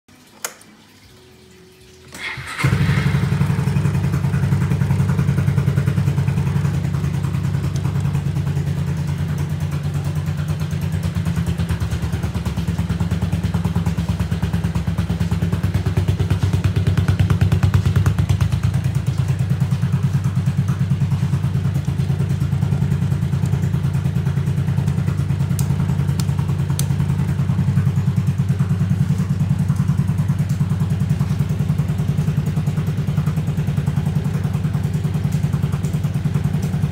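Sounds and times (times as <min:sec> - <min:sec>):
scooter engine idling: 0:02.1 - 0:36.9.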